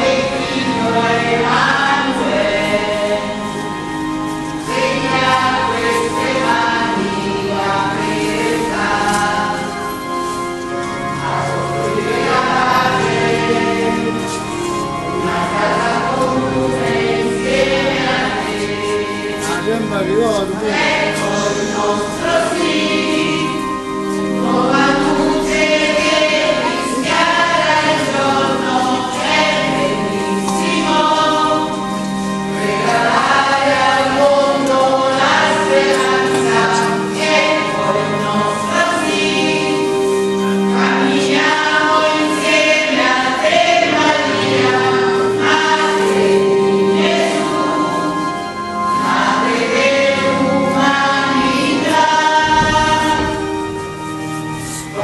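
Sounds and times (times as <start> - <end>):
church choir singing a hymn: 0.0 - 55.0.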